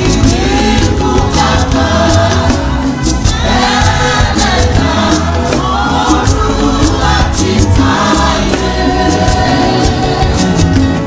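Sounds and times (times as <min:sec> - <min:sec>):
choir and congregation singing hymn: 0:00.0 - 0:11.0
steady percussive beat: 0:00.0 - 0:11.0.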